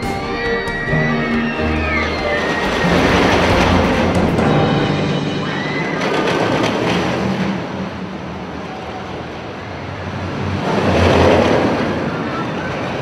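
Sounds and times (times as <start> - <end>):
loud rushing noise: 0.0 - 12.3.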